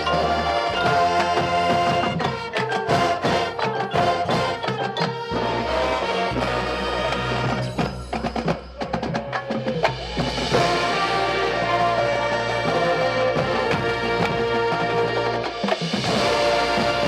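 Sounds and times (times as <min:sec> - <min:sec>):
marching band playing: 0:00.0 - 0:17.0
sharp percussion hits: 0:00.0 - 0:17.0.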